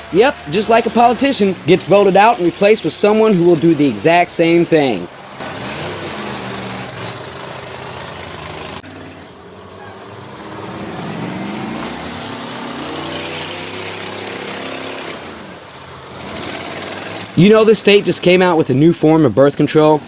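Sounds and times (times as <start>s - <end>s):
bus engines revving: 0.0s - 20.0s.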